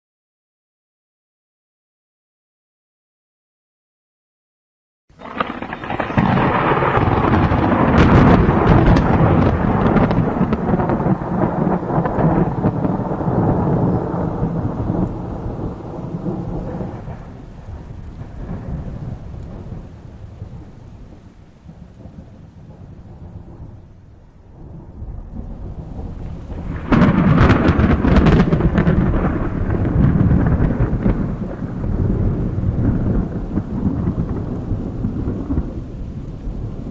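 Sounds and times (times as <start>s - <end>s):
rain: 5.1s - 36.9s
thunder rolling: 5.1s - 36.9s.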